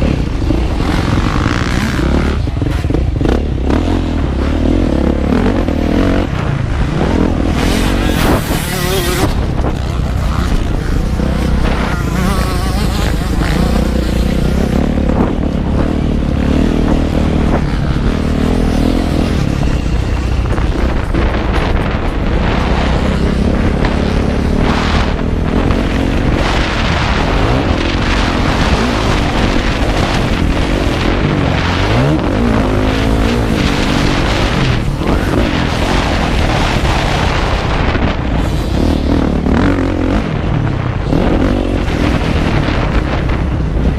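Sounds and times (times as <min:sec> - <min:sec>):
motorcycle engine revving: 0:00.0 - 0:43.9
wind rumble on microphone: 0:00.0 - 0:43.9.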